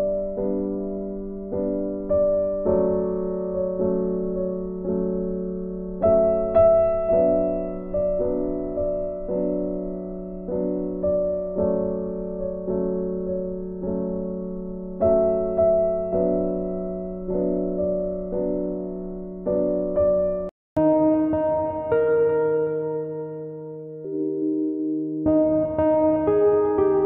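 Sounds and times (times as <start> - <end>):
soft piano chords: 0.0 - 27.0.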